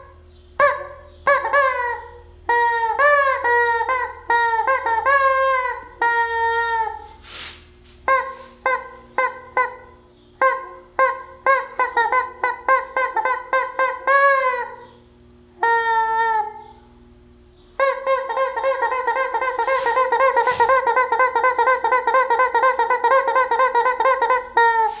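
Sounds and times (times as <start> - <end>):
toy chicken honking: 0.6 - 7.1, 8.1 - 14.8, 15.6 - 16.6, 17.8 - 25.0.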